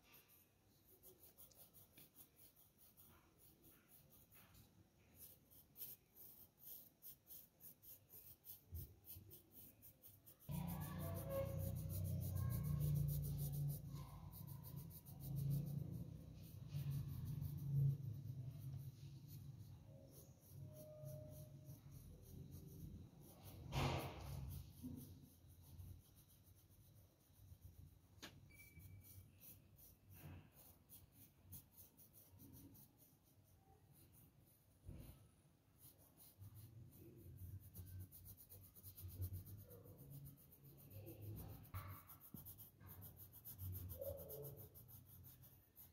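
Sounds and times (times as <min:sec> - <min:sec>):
pencil scratching on paper: 0:00.0 - 0:45.9.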